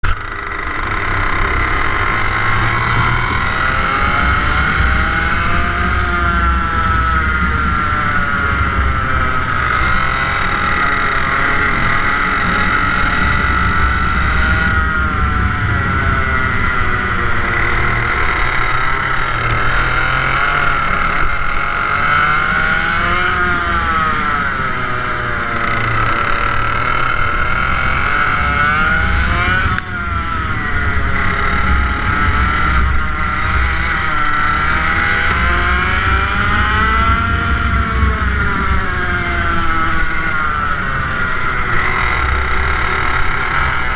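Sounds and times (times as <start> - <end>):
kart engine revving: 0.0 - 43.9.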